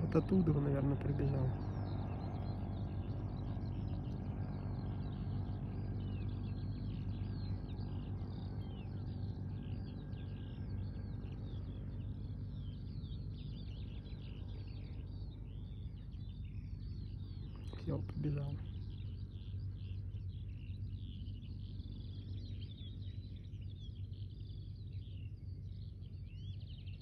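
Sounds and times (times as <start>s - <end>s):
birds chirping and whistling: 0.0s - 27.0s
steady low hum: 0.0s - 27.0s.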